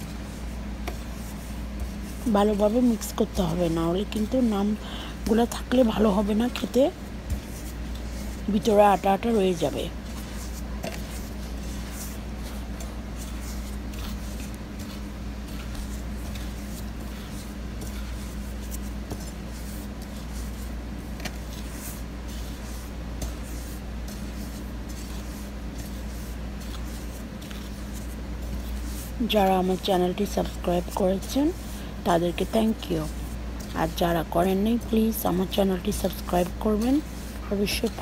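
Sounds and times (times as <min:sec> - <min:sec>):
fingers rubbing powder on a plate: 0:00.0 - 0:38.0
steady low hum: 0:00.0 - 0:38.0.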